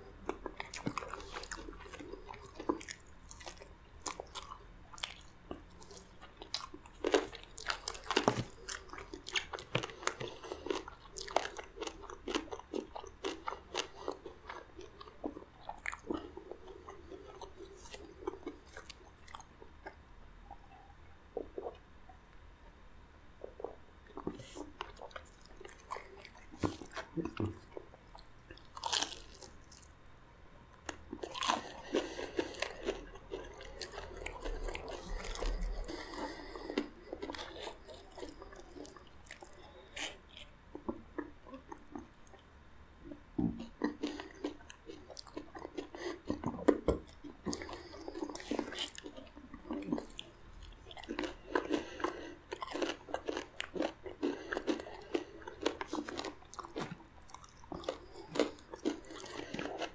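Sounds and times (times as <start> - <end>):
crunching fried chicken: 0.2 - 19.5, 24.2 - 29.9, 30.8 - 42.4, 43.6 - 59.9.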